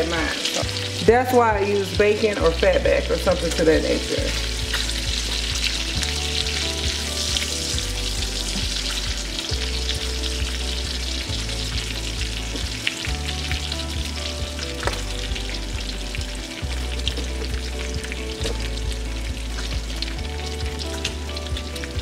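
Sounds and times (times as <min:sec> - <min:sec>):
bacon sizzling in a frying pan: 0:00.0 - 0:22.0.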